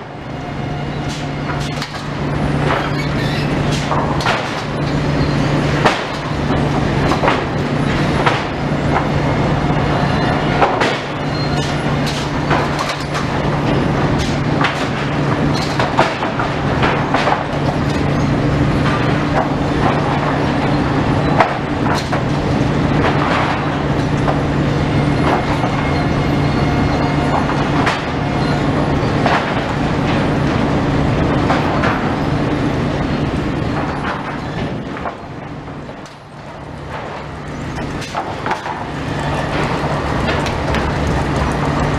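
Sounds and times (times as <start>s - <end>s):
low machine hum: 0.0s - 41.9s
boards knocking and clattering: 1.1s - 9.2s, 10.3s - 18.2s, 18.8s - 24.4s, 25.2s - 26.2s, 26.8s - 32.2s, 33.6s - 41.9s.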